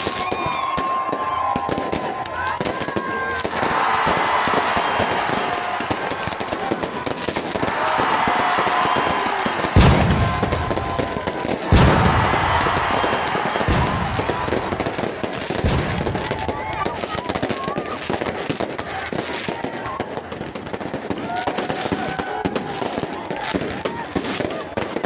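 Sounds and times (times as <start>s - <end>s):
fireworks booms: 0.0s - 25.0s
fireworks crackling and popping: 0.0s - 25.0s.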